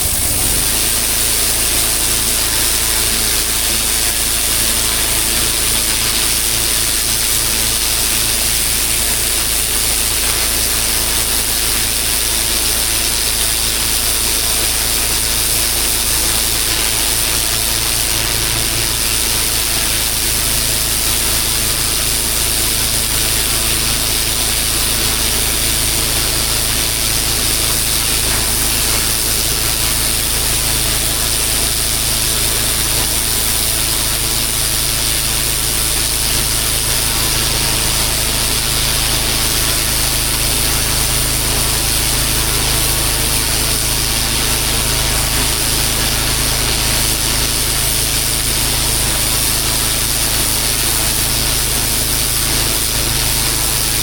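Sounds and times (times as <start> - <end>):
high-pressure water spray hiss: 0.0 - 54.0
pressure washer engine droning: 0.0 - 54.0.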